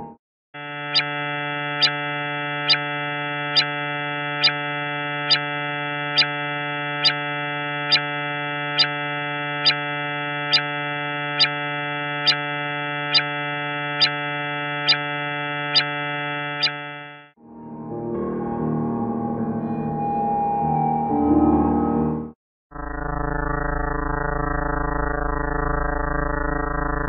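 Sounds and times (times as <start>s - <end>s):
buzzing synthesized drone: 0.0s - 17.8s, 22.7s - 27.0s.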